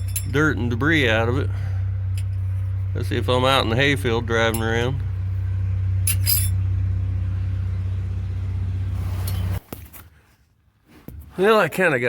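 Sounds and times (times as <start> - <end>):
pickup truck driving: 0.0 - 9.8.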